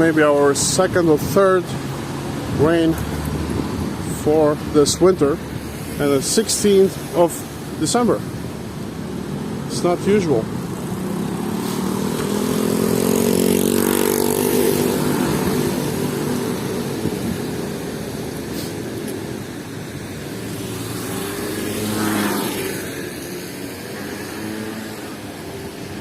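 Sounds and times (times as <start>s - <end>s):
vehicle engine passing: 1.8s - 26.0s.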